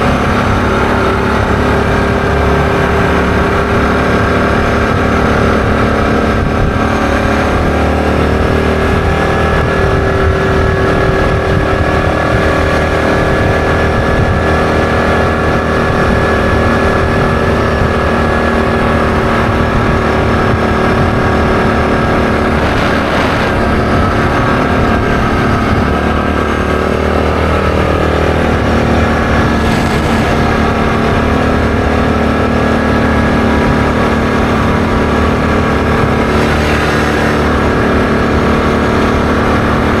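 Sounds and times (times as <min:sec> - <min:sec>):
atv engine droning: 0:00.0 - 0:40.0.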